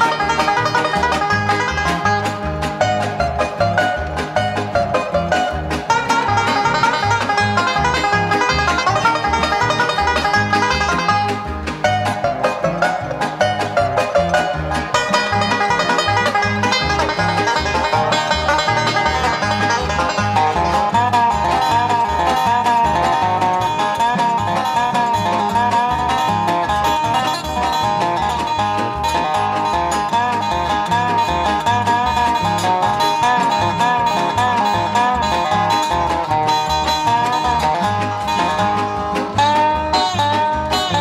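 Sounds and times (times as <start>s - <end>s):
instrumental music with steady beat: 0.0s - 41.0s.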